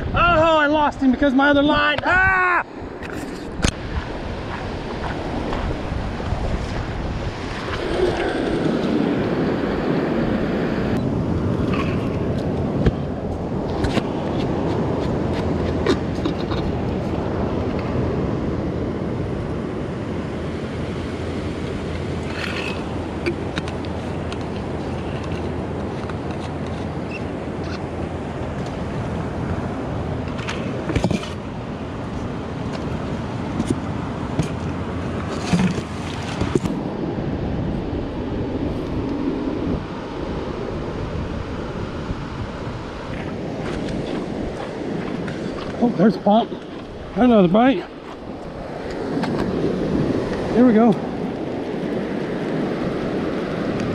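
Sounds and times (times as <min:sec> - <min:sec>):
wind rumbling on microphone: 0:00.0 - 0:53.9
ocean surf washing up: 0:03.6 - 0:53.9.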